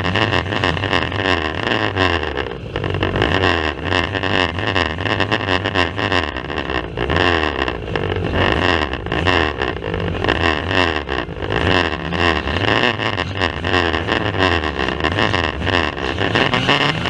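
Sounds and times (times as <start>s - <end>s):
racing car engines running hard: 0.0s - 17.0s.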